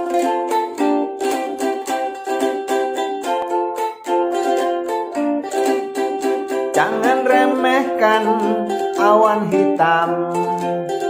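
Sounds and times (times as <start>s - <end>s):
ukulele strumming: 0.0s - 11.0s.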